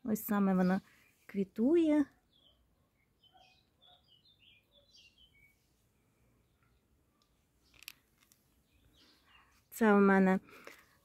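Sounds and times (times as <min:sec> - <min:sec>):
faint songbird chirping: 0:00.0 - 0:11.0.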